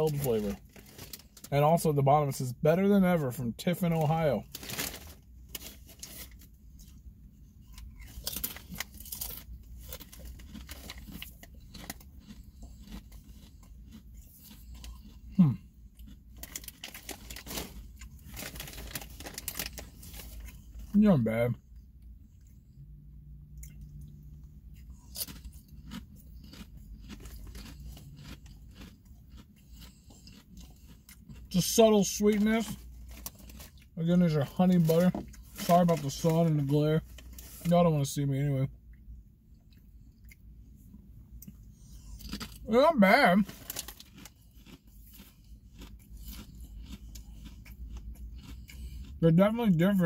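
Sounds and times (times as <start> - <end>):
person chewing crisp chips: 0.0 - 38.2, 38.8 - 50.0.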